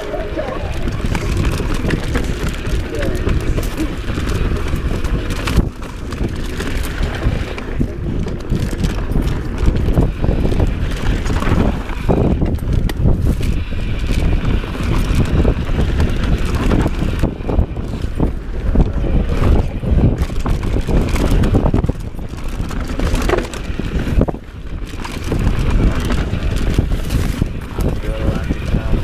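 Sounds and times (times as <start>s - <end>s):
tyre rumble on dirt trail: 0.0s - 29.0s
wind buffeting microphone: 0.0s - 29.0s
bike knocks and rattles: 0.8s - 29.0s.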